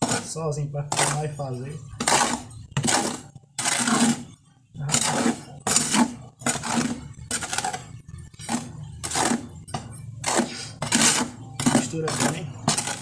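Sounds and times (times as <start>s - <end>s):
trowel scraping dry cement mix: 0.0s - 13.0s.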